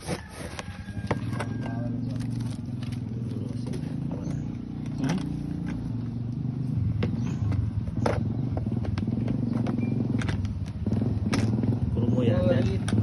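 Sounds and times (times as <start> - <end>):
motor engine humming: 0.6 - 13.0.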